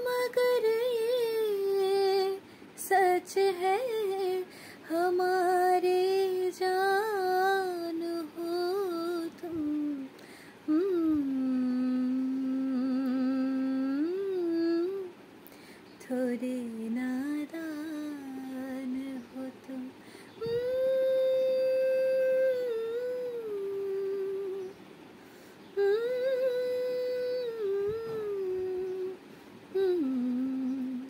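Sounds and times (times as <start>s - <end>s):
woman humming: 0.0s - 15.2s, 16.0s - 24.8s, 25.8s - 31.0s.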